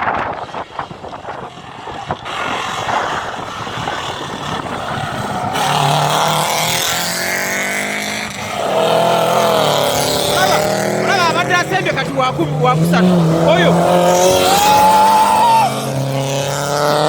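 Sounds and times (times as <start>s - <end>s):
car engine accelerating: 0.0s - 17.0s
rally car engines running hard: 0.0s - 17.0s.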